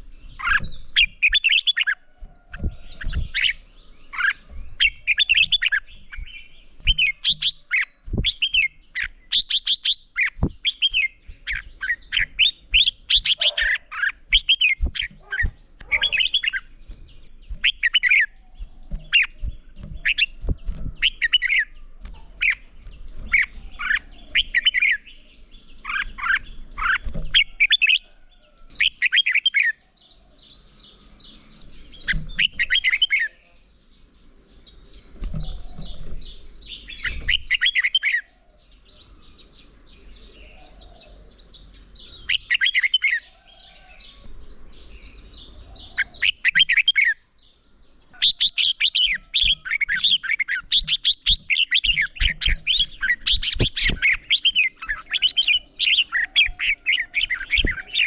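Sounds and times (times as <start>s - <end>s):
bird twittering: 0.0s - 34.0s, 34.6s - 44.3s, 45.0s - 47.3s, 48.0s - 58.0s
bulbuls whistled song: 0.0s - 58.0s.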